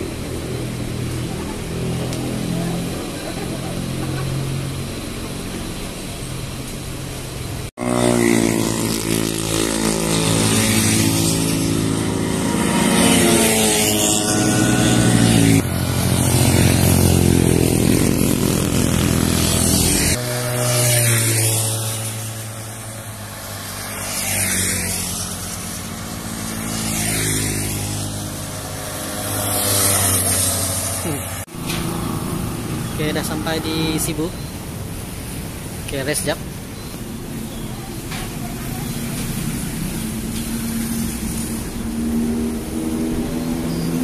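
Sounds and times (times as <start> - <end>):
motorcycles riding past: 0.0 - 44.0.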